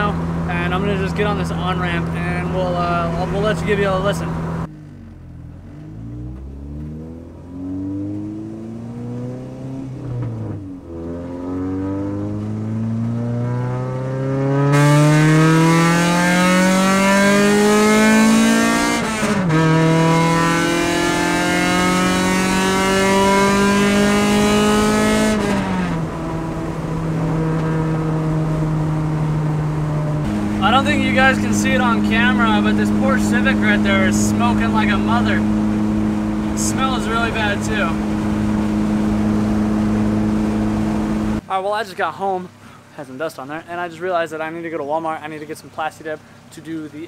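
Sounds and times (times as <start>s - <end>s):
car engine accelerating: 0.0s - 41.4s.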